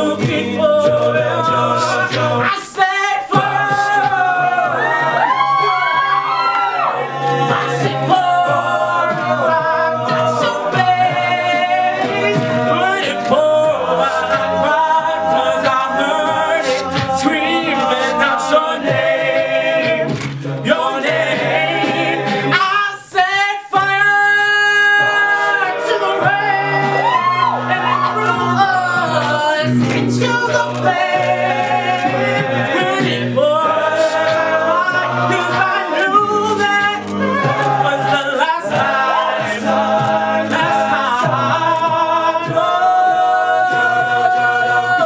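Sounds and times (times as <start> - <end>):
male soloist singing: 0.0 - 5.9, 7.0 - 45.0
backing voices singing chords: 0.0 - 45.0
vocal percussion: 0.0 - 45.0.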